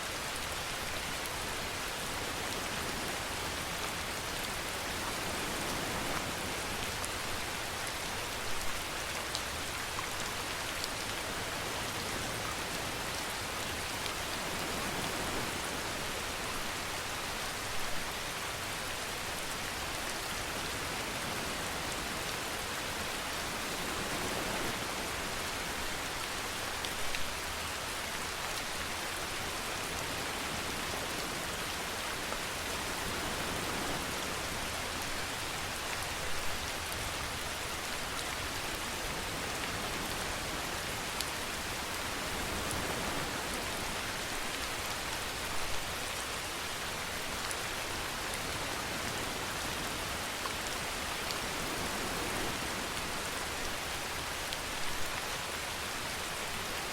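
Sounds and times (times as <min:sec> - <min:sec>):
steady rainfall: 0:00.0 - 0:56.9.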